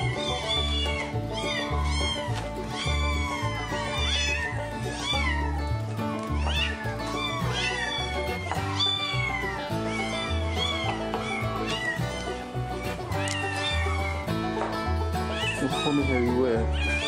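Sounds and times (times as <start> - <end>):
kittens meowing: 0.0 - 14.5, 15.1 - 17.0
background music with bass line: 0.0 - 17.0.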